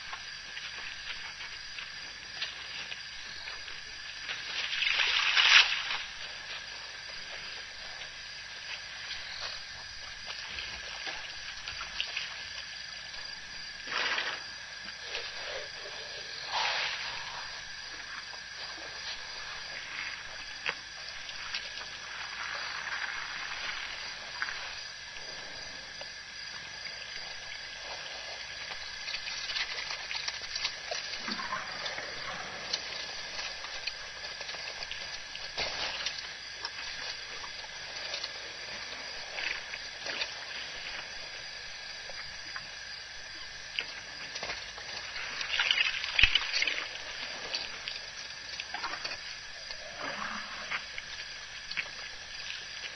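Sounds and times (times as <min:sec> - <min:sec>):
steady background hiss: 0:00.0 - 0:52.9
water sloshing and dribbling: 0:00.0 - 0:52.9
water splashes: 0:00.0 - 0:52.9.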